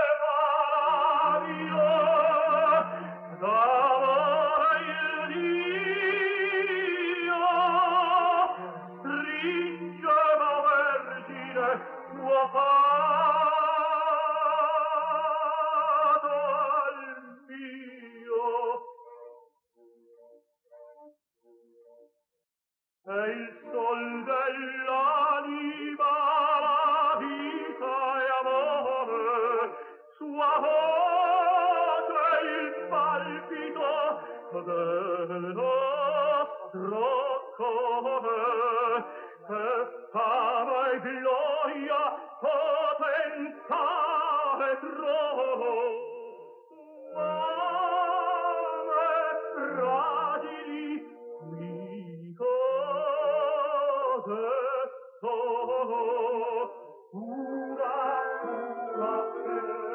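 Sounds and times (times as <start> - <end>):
operatic singing with vibrato: 0.0 - 19.5, 23.1 - 59.9.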